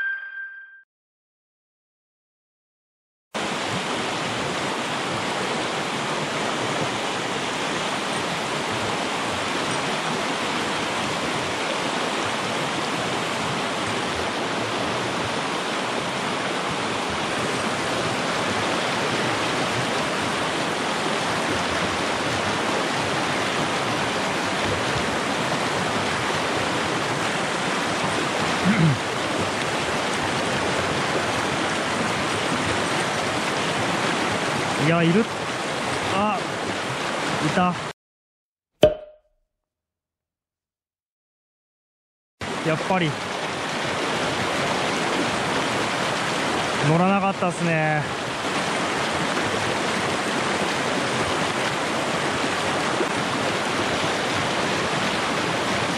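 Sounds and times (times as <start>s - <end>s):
river rushing over rocks: 3.4s - 37.9s, 42.4s - 55.9s.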